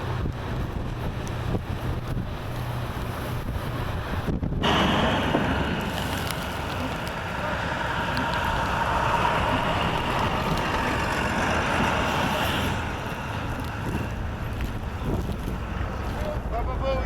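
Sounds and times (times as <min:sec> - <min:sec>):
storm wind rushing: 0:00.0 - 0:16.8
motor vehicle running: 0:00.0 - 0:17.0.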